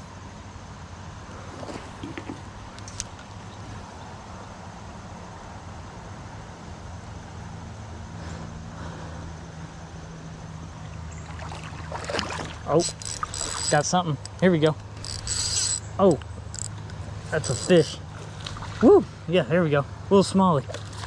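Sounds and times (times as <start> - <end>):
road traffic drone: 0.0 - 21.0.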